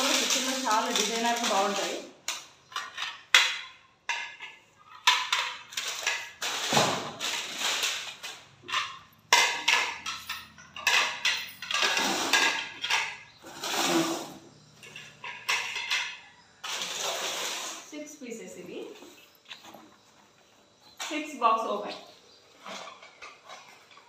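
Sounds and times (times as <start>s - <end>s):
plates clattering on stone floor: 0.0s - 17.8s, 21.9s - 24.0s.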